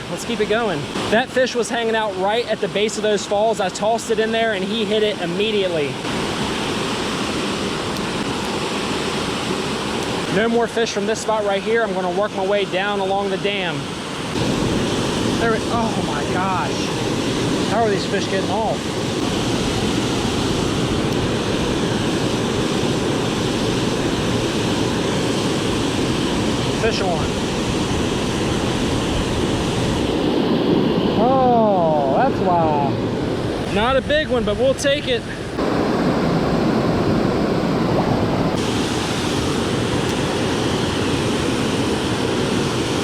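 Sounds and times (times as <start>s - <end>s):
water rushing over dam falls: 0.0s - 30.2s, 33.7s - 43.0s.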